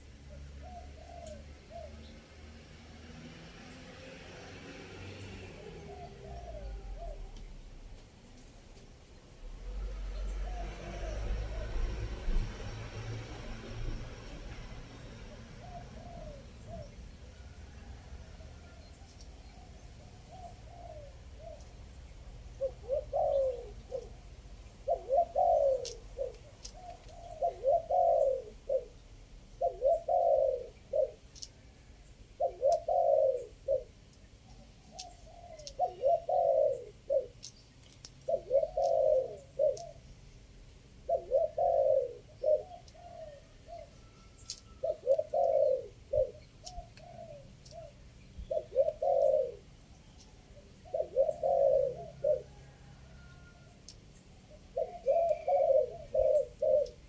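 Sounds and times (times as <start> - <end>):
dove cooing: 0.0 - 2.6, 5.2 - 8.8, 9.4 - 40.1, 40.9 - 57.0.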